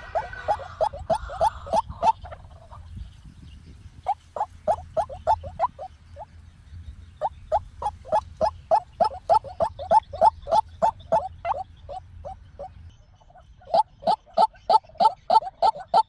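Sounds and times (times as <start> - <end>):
waterhen calling: 0.0 - 2.9, 4.0 - 6.3, 7.2 - 16.0.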